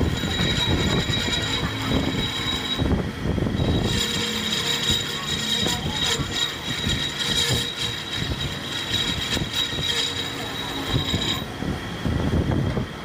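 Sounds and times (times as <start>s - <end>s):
machine high whine: 0.0s - 13.0s.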